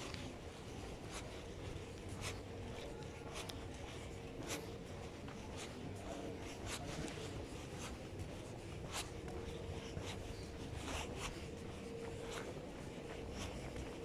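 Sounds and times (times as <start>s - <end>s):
faint steady hum: 0.0s - 14.0s
footsteps on pavement: 0.0s - 14.0s.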